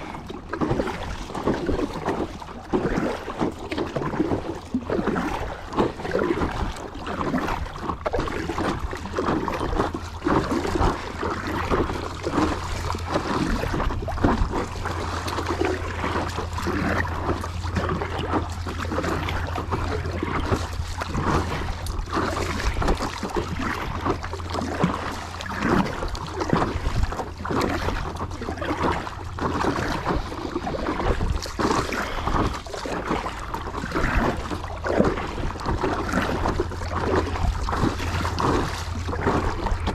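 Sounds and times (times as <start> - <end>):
water splashing around kayak: 0.0 - 39.9
wind rumbling on microphone: 0.0 - 39.9.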